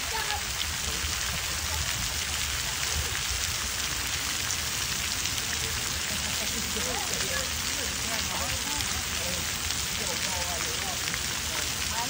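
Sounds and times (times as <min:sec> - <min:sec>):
fountain water pattering on concrete: 0:00.0 - 0:12.0.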